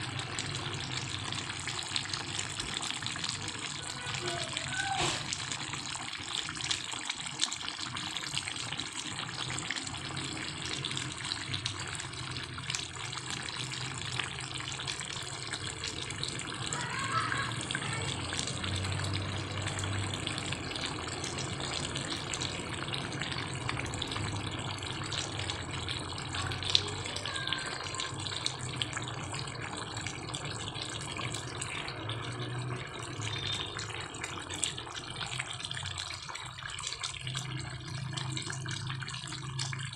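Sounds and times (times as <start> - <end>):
sauce simmering and bubbling: 0.0 - 39.9.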